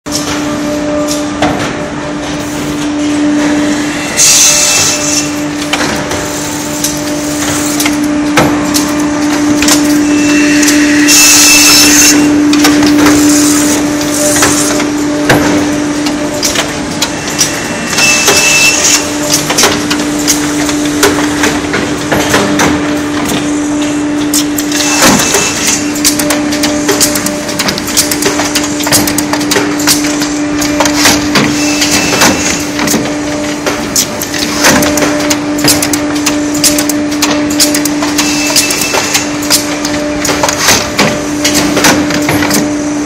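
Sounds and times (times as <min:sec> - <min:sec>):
machine humming: 0:00.1 - 0:43.0.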